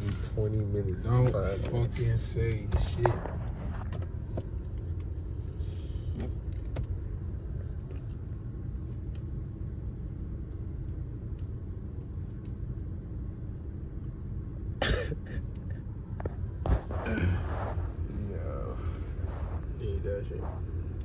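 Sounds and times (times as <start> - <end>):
car engine rumble inside cabin: 0.0 - 21.0.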